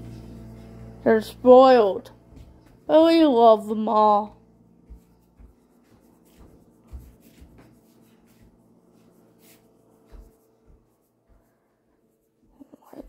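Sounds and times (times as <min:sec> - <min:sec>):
soft footsteps: 0:00.0 - 0:01.0, 0:02.0 - 0:03.3, 0:04.3 - 0:13.0
faint steady hum: 0:00.0 - 0:13.0.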